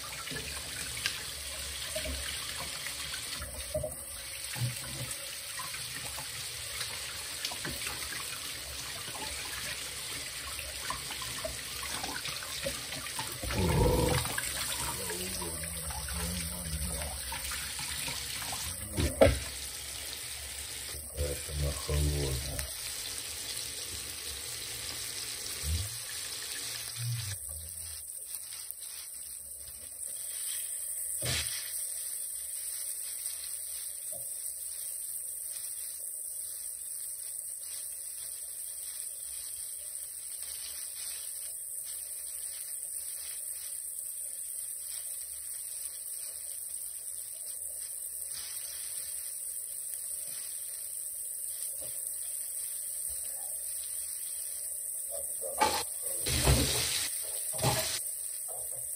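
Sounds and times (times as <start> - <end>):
fish sizzling in oil: 0.0 - 58.9.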